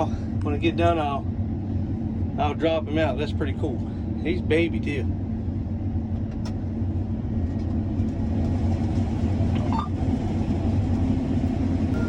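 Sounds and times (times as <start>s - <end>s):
farm vehicle engine droning: 0.0s - 12.0s.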